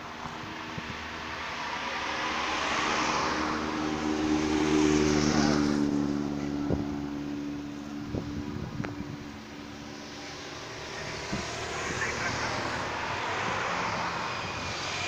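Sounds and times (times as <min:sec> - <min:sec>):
motorcycle engine passing: 0:01.7 - 0:15.0.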